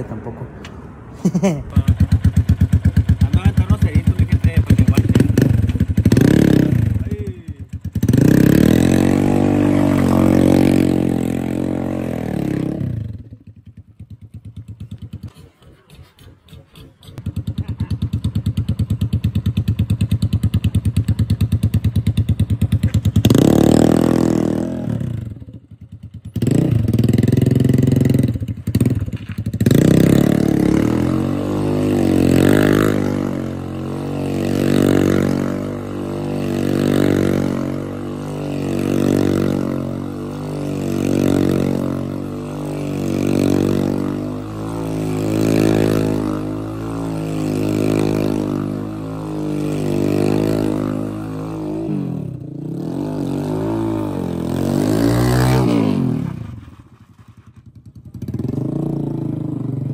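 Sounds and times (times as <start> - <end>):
motorcycle engine revving: 1.5 - 59.9.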